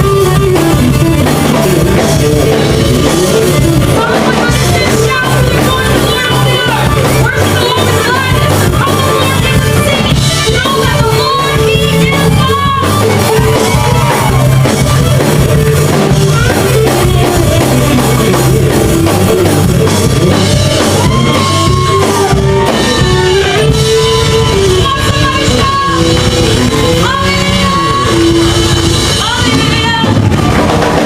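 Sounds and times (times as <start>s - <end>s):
person singing: 0.0s - 30.4s
rock band playing: 0.0s - 31.0s.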